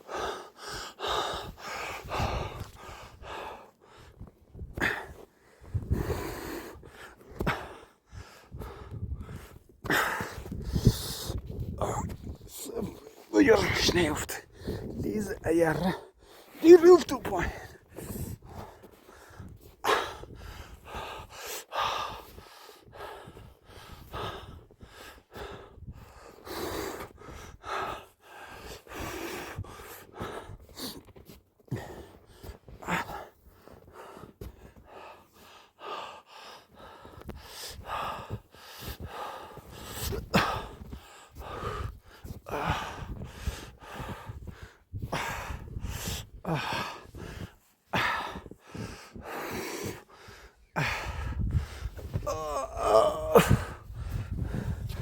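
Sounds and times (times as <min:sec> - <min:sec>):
person breathing hard and gasping: 0:00.0 - 0:15.2, 0:16.0 - 0:31.1, 0:31.7 - 0:55.0.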